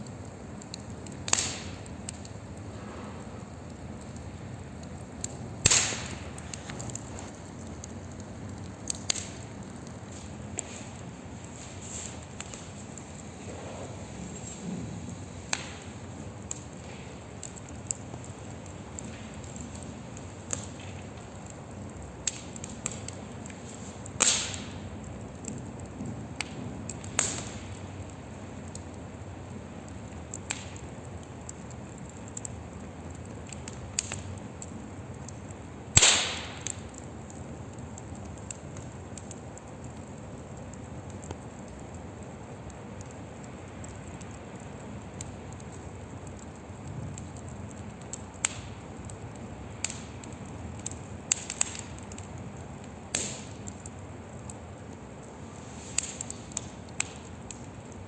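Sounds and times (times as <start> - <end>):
burning wood crackling and popping: 0.0 - 58.0
hiss of flames: 0.0 - 58.0.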